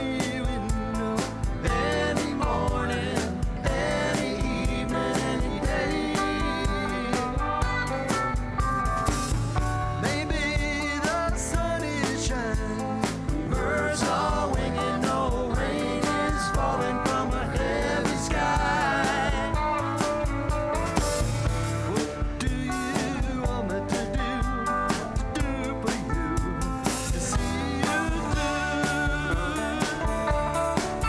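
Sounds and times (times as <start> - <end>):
person singing: 0.0 - 8.4, 9.8 - 31.0
drums keeping a steady beat: 0.0 - 31.0
guitars: 0.0 - 31.0.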